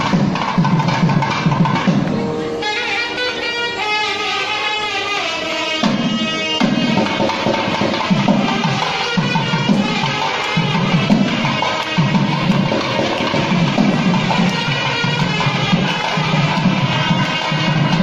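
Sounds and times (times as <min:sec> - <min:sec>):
steady drum beat: 0:00.0 - 0:02.3, 0:05.8 - 0:18.0.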